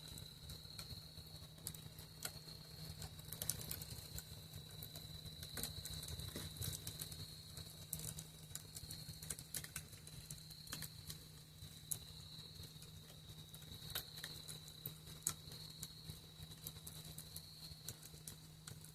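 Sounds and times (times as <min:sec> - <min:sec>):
campfire crackling and popping: 0:00.0 - 0:18.9
crickets trilling: 0:00.0 - 0:18.9.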